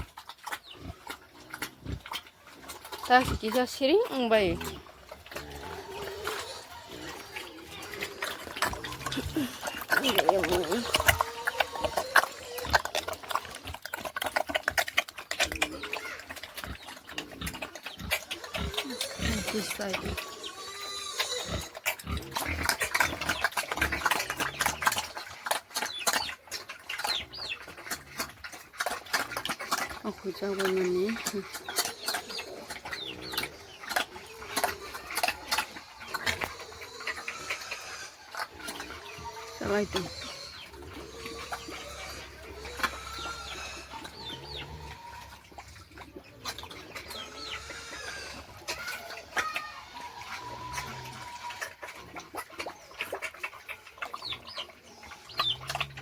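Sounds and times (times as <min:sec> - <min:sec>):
chickens clucking: 0:00.0 - 0:56.0
pigs grunting: 0:00.0 - 0:56.0.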